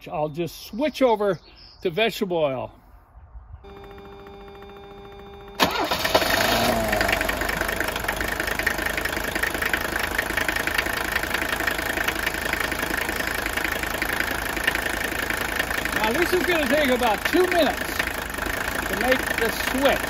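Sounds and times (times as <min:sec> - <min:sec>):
diesel engine cranking and idling: 0:03.7 - 0:20.0.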